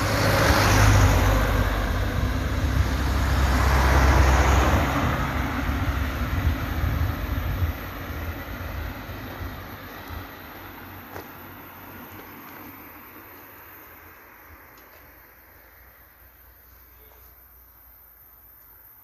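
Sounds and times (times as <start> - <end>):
cars passing on asphalt: 0.0 - 19.0.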